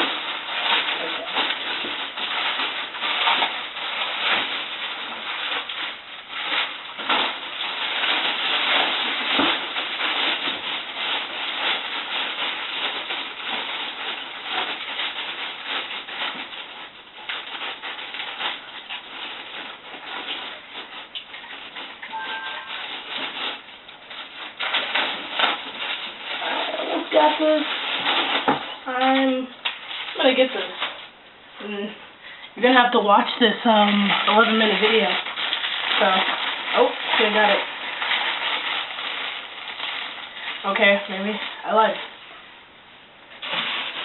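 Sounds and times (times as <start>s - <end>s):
packaging rustling and crinkling: 0.0s - 31.2s, 32.6s - 42.5s, 43.3s - 44.0s.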